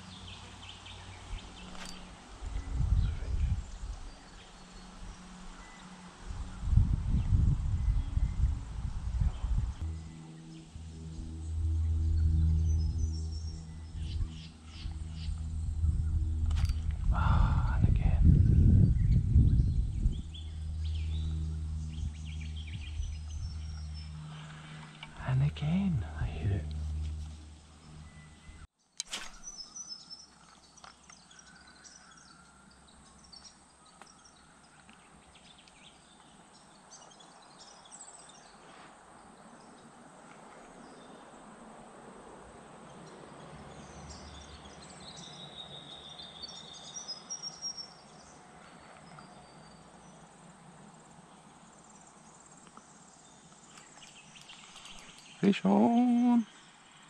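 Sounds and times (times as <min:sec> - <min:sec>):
birds chirping: 0:00.0 - 0:08.5, 0:09.1 - 0:39.9, 0:42.8 - 0:50.4, 0:51.0 - 0:57.0.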